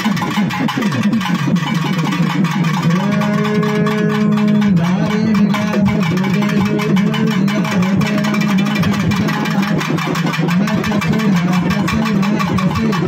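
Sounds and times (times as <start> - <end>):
long held low notes: 1.6 - 13.0.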